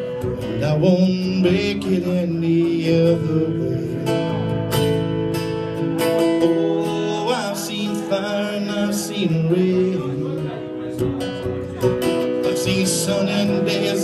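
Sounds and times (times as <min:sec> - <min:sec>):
man singing: 0:00.0 - 0:05.0, 0:06.0 - 0:14.0
acoustic guitar strumming: 0:00.0 - 0:14.0.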